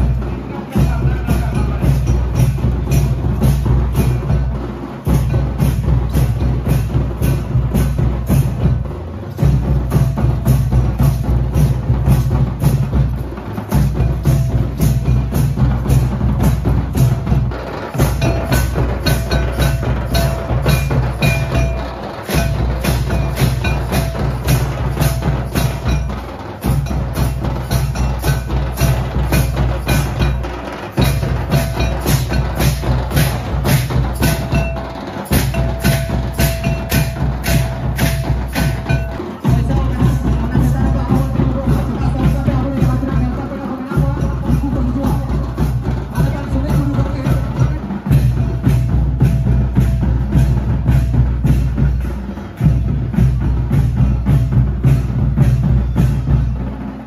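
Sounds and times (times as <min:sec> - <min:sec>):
drums beating fast rhythm: 0:00.0 - 0:57.0
hand cymbals striking: 0:00.0 - 0:57.0.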